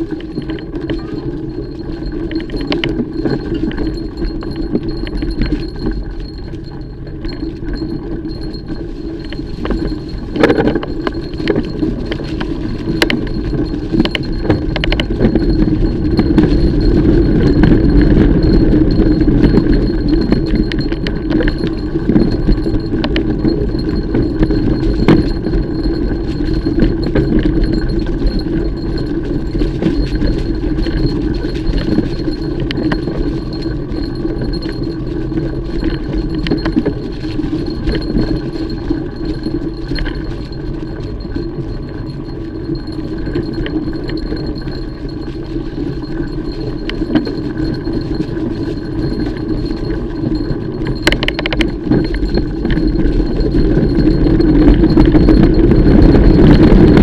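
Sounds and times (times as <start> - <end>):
bike chain rattling and clicking: 0.0 - 57.0
bike tyres rolling over dirt: 0.0 - 57.0.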